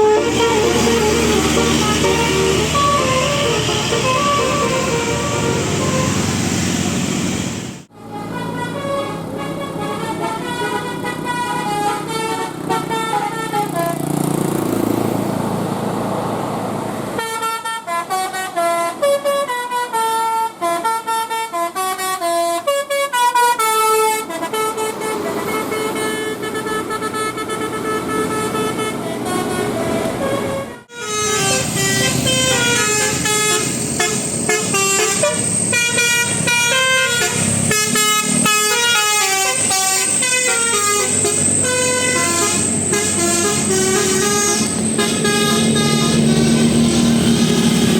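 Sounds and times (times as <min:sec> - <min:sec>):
musical air horns playing tunes: 0:00.0 - 0:14.1, 0:17.2 - 0:47.9.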